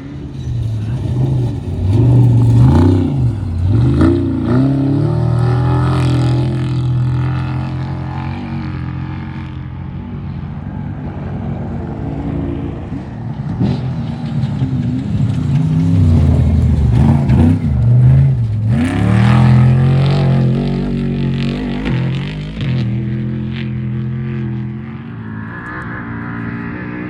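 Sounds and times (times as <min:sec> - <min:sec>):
race vehicle engine revving: 0:00.0 - 0:10.2, 0:11.5 - 0:27.0.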